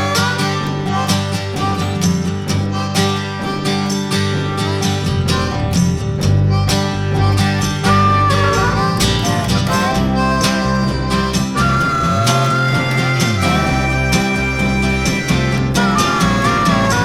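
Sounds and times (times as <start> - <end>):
upbeat country bluegrass music: 0.0 - 17.0.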